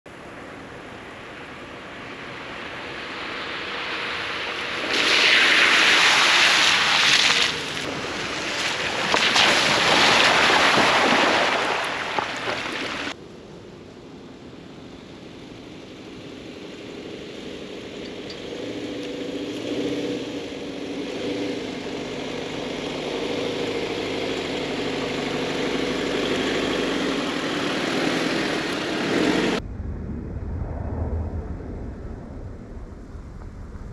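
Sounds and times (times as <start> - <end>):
vehicle running hum: 0.1 - 30.6
vehicle rushing noise: 0.3 - 13.2, 18.6 - 33.9.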